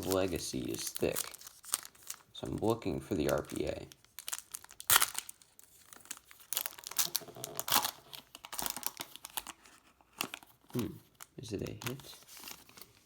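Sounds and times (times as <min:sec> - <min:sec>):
plastic wrapper crinkling: 0:00.0 - 0:13.0
plastic wrapper ripping: 0:00.0 - 0:13.0.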